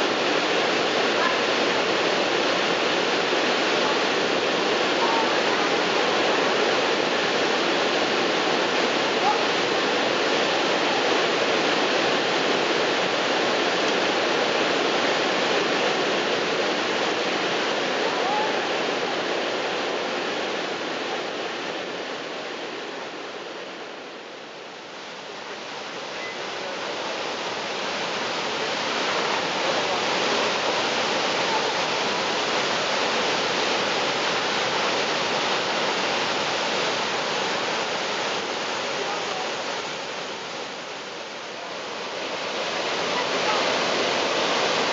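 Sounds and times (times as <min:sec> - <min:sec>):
waterfall rushing onto rocks: 0:00.0 - 0:44.9.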